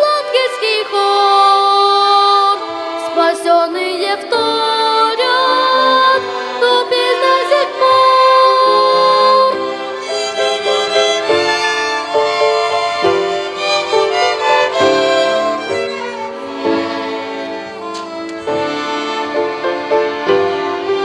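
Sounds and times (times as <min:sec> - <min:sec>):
violin ensemble playing: 0:00.0 - 0:21.0.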